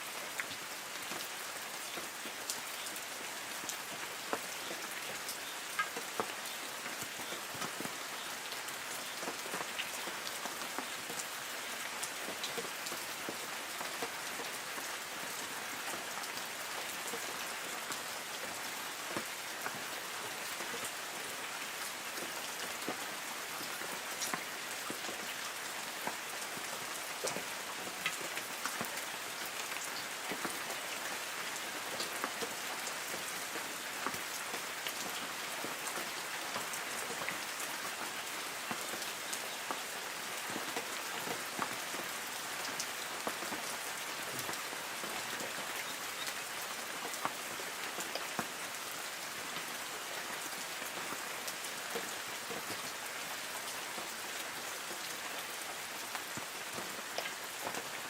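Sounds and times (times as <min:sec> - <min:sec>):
light rain hissing on trees: 0:00.0 - 0:58.0
raindrops tapping on leaves: 0:00.0 - 0:58.0.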